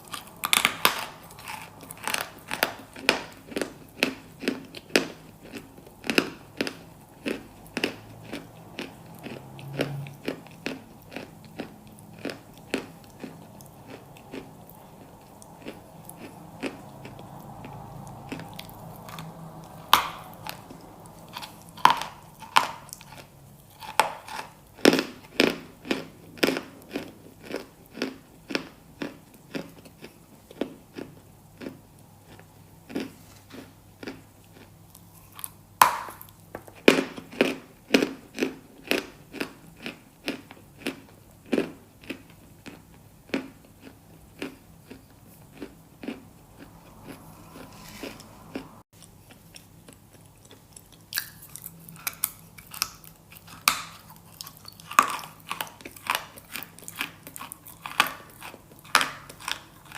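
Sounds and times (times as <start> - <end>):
sharp crunchy bites: 0.0 - 48.8, 49.4 - 59.9
crunchy chewing: 0.0 - 59.9.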